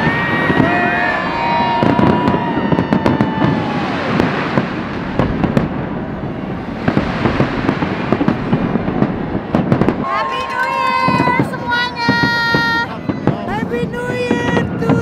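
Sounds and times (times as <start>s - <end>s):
fireworks crackling and popping: 0.0s - 15.0s
fireworks rumbling: 0.0s - 15.0s.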